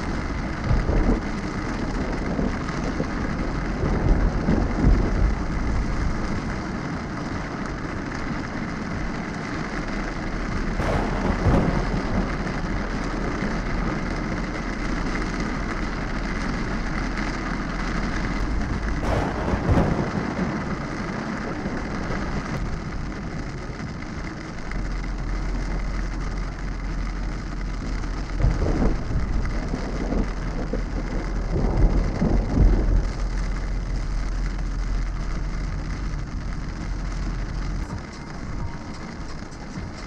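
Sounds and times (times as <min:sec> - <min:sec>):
heavy rain on windshield: 0:00.0 - 0:40.0
thunder rumbles: 0:00.0 - 0:40.0.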